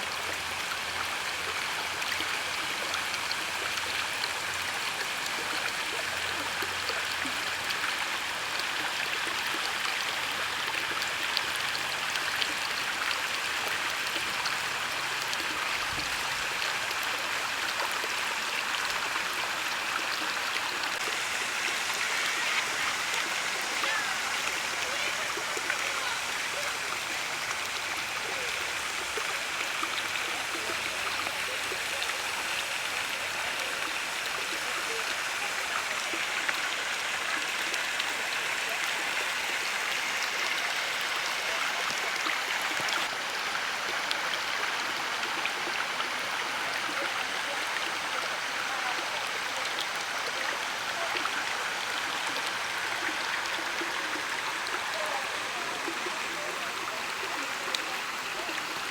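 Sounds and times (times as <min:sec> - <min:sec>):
small water splashes: 0:00.0 - 0:58.9
water flowing steadily: 0:00.0 - 0:58.9.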